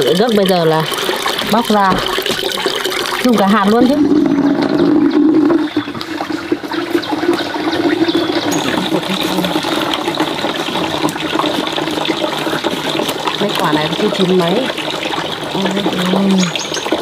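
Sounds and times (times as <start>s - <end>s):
water pouring and splashing: 0.0s - 17.0s.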